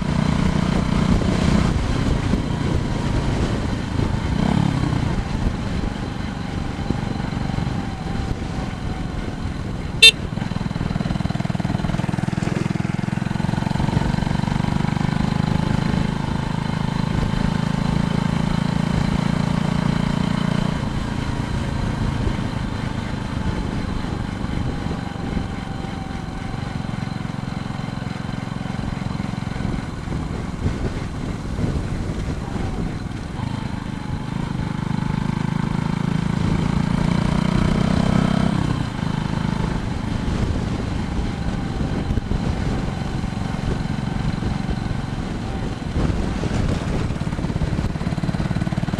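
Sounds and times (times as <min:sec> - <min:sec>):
bicycle road rumble: 0:00.0 - 0:48.9.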